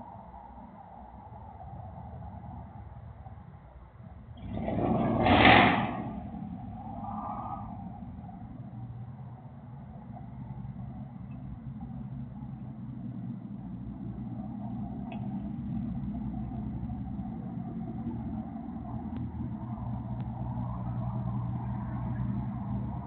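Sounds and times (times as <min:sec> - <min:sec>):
truck engine deep exhaust: 0:00.0 - 0:23.0.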